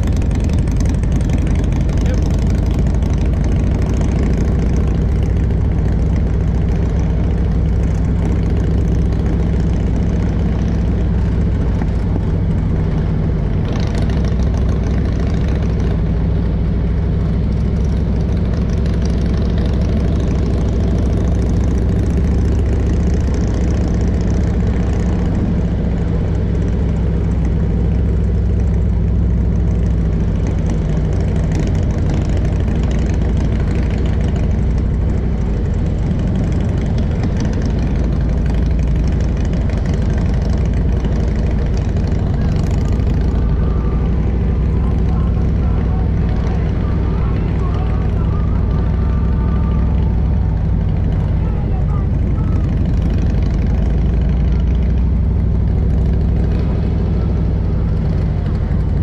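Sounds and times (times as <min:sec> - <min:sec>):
motorcycle engine running: 0:00.0 - 0:59.0
wind and road rush: 0:00.0 - 0:59.0.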